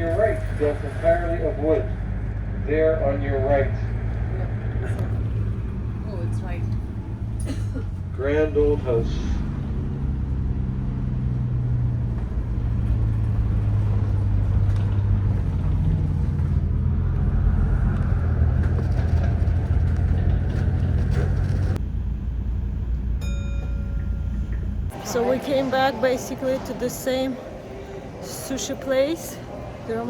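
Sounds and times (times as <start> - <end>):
bus engine drone: 0.0 - 30.0
road noise: 0.0 - 30.0.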